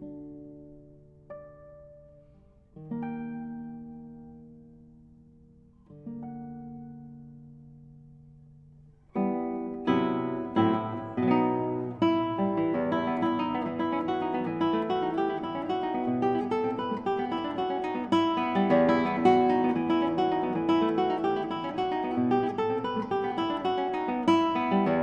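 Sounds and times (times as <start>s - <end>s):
plucked string music: 0.0s - 25.0s.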